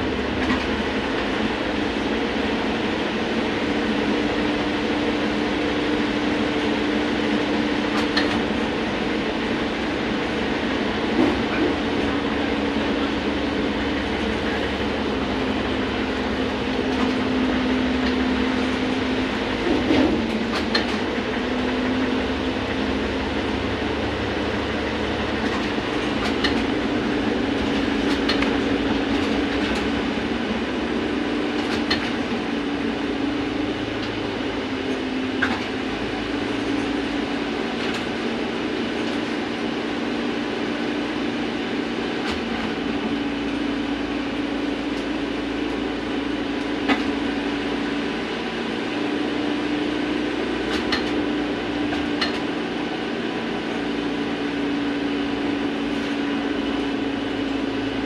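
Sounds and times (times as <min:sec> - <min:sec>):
road rumble: 0:00.0 - 0:58.0
trolleybus electric hum: 0:00.0 - 0:58.0.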